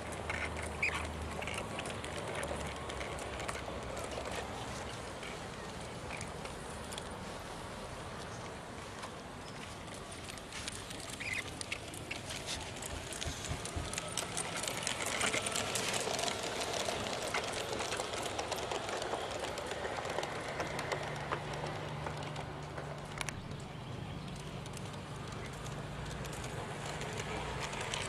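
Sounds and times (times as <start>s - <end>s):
wheels clicking over rail joints: 0.0s - 28.0s.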